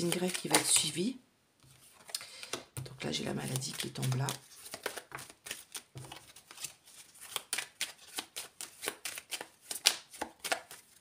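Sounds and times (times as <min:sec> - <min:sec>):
cards being shuffled: 0:00.0 - 0:01.0, 0:01.7 - 0:11.0.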